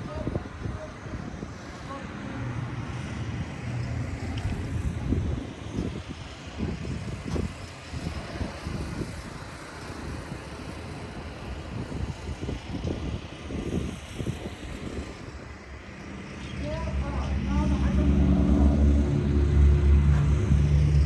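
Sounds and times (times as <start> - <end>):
vehicle noise: 0.0 - 21.0
wind buffeting microphone: 0.0 - 21.0.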